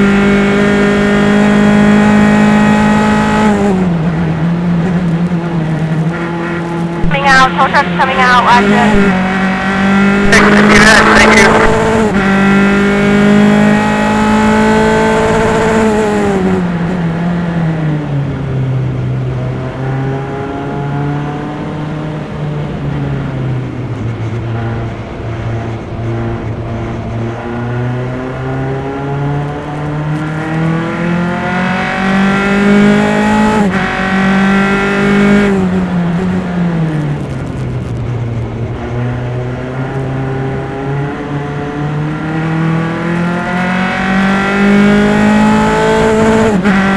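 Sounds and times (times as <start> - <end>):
race car engine: 0.0 - 46.9.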